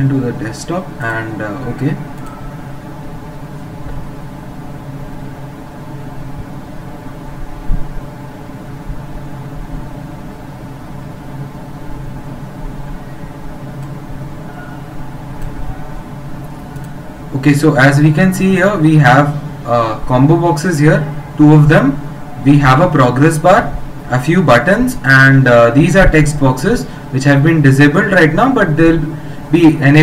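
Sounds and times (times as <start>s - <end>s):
electrical hum with hiss: 0.0s - 30.0s.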